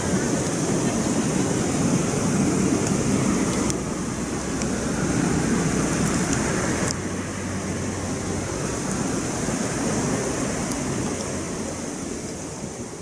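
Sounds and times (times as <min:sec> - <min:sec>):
campfire burning: 0:00.0 - 0:13.0
faint fire crackles: 0:00.0 - 0:13.0.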